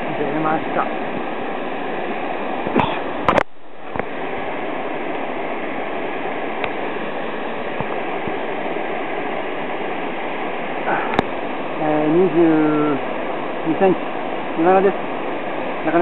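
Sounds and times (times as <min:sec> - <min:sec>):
rushing mountain stream: 0:00.0 - 0:16.0.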